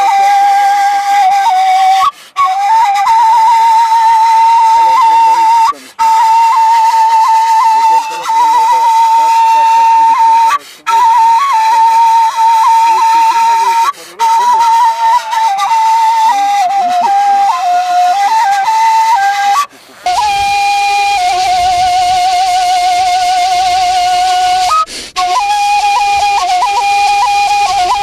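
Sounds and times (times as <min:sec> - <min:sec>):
end-blown flute playing: 0:00.0 - 0:28.0.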